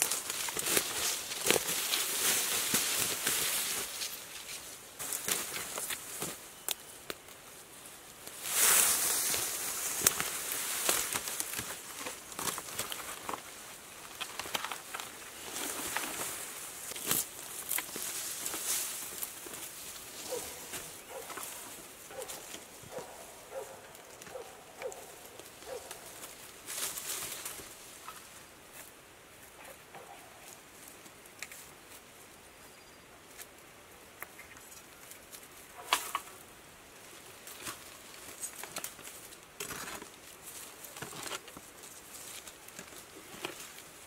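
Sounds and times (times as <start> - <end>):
twigs snapping and crackling: 0.0 - 7.4, 8.2 - 28.2, 34.2 - 36.4, 37.4 - 44.0
dry leaves rustling and crunching: 0.0 - 28.9, 34.9 - 44.0.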